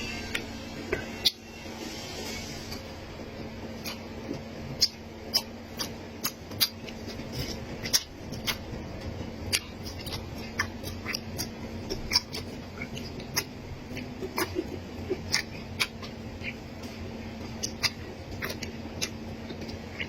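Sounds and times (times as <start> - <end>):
crunching and chewing food: 0.0 - 1.5, 2.4 - 20.0
faint steady hum: 0.0 - 20.0.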